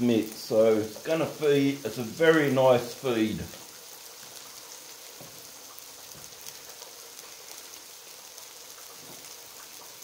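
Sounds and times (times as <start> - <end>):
patties sizzling in frypan: 0.0 - 10.0.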